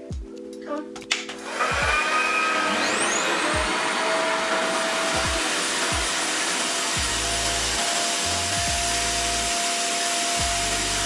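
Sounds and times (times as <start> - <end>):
hair dryer suction motor whine: 1.4 - 11.0.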